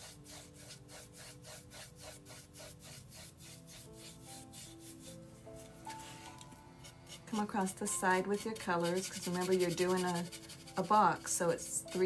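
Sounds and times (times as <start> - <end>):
paintbrush scratching on wood: 0.0 - 6.2, 7.1 - 12.0.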